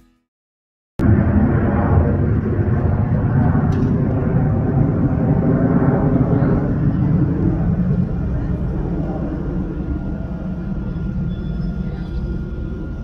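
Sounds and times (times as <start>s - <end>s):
jet airliner engine roar: 1.0s - 13.0s.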